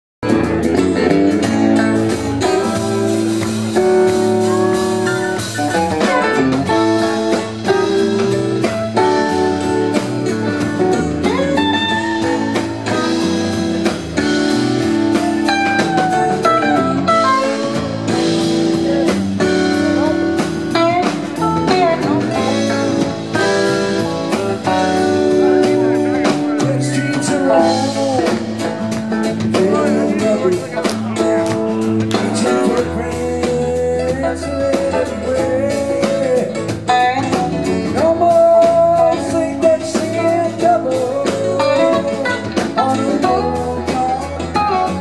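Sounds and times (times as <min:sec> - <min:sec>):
lead guitar bending notes: 0:00.2 - 0:45.0
rock band playing: 0:00.2 - 0:45.0.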